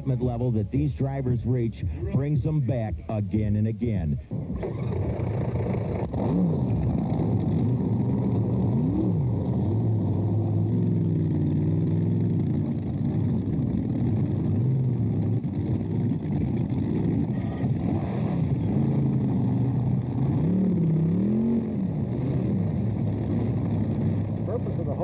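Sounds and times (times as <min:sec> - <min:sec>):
engine throttle blips: 0:00.0 - 0:25.0
boat engines idling: 0:04.3 - 0:17.9, 0:18.5 - 0:25.0.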